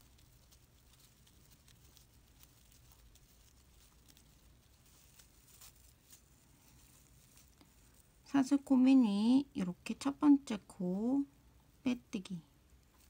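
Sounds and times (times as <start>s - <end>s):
faint ticks and rustles of crochet hook: 0.0s - 13.0s.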